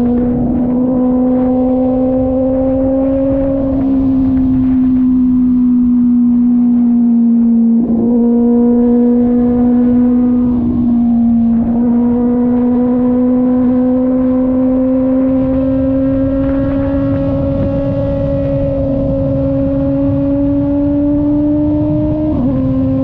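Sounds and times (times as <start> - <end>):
motorcycle engine running: 0.0 - 23.0
wind rumble: 0.0 - 23.0.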